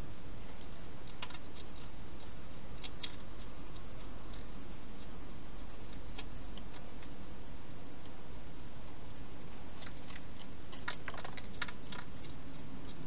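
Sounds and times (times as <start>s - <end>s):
steady background hiss: 0.0s - 13.0s
hedgehog chewing: 0.4s - 13.0s.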